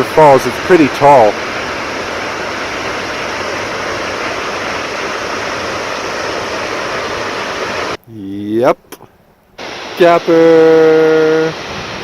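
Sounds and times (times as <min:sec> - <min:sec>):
waterfall roaring: 0:00.0 - 0:08.0, 0:09.6 - 0:12.0.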